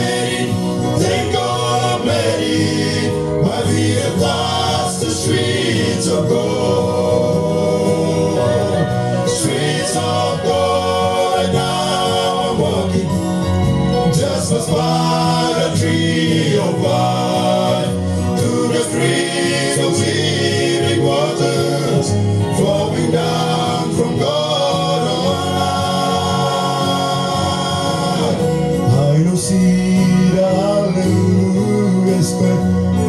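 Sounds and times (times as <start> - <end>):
electronic keyboard bass notes: 0.0 - 33.0
male vocal group singing in harmony: 0.0 - 33.0.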